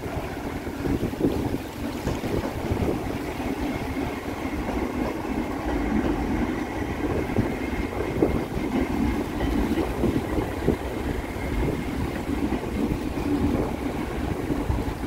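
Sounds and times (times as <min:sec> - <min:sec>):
electric train rumbling past: 0:00.0 - 0:15.0
wind buffeting microphone: 0:00.0 - 0:15.0.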